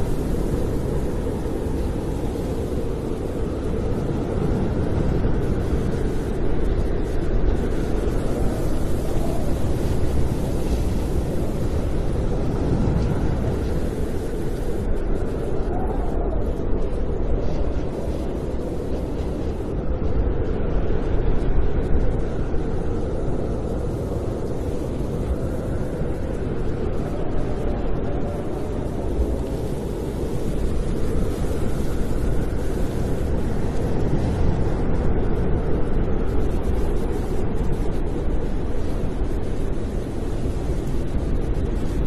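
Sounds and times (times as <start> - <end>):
faint wind whistle: 0.0 - 42.0
storm wind rumbling in gusts: 0.0 - 42.0.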